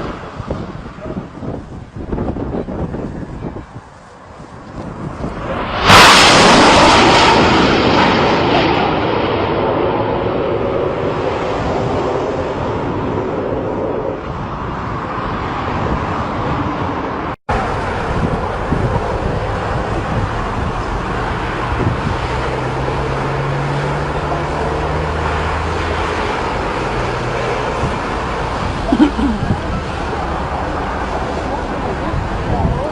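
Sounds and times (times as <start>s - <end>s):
jet engine roar: 0.0s - 32.9s
wind on microphone: 0.0s - 32.9s.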